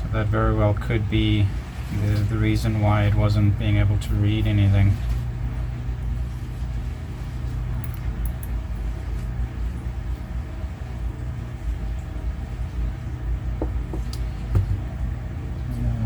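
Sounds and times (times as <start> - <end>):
workshop hum: 0.0 - 16.0.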